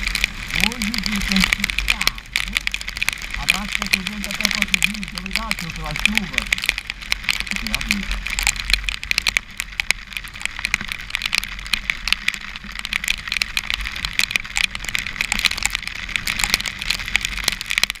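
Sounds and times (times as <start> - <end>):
low rumble: 0.0 - 18.0
raindrops hitting microphone: 0.0 - 18.0.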